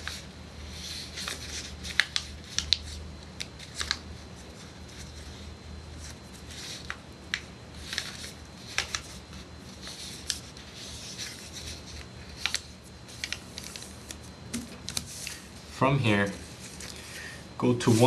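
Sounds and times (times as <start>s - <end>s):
paper rustling: 0.0s - 5.4s, 6.0s - 17.2s.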